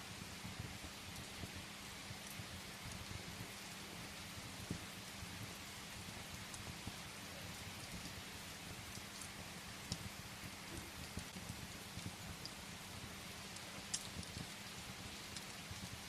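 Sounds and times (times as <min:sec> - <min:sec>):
rain against a window: 0:00.0 - 0:16.0
wood fire crackling: 0:00.0 - 0:16.0.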